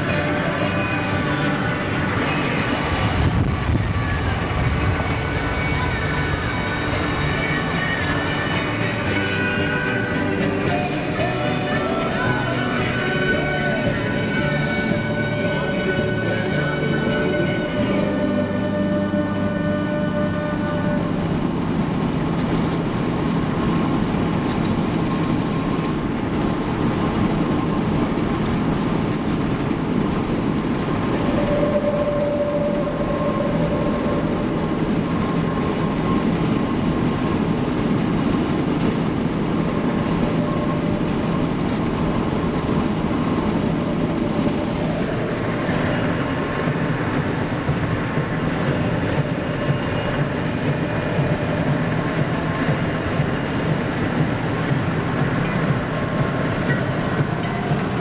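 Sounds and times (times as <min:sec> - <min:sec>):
car road and wind noise: 0:00.0 - 0:58.0
wind buffeting microphone: 0:00.0 - 0:58.0.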